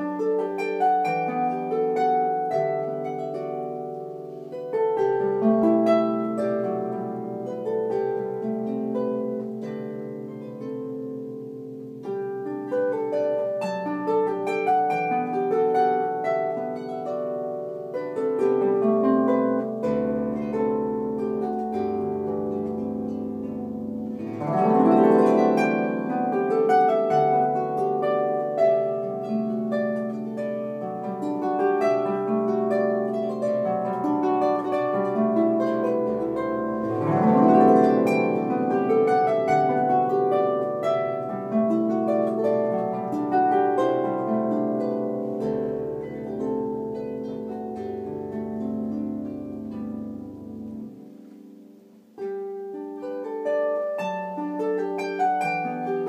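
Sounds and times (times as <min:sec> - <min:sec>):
electric harp melody: 0:00.0 - 0:56.0
harp glissando: 0:00.0 - 0:56.0.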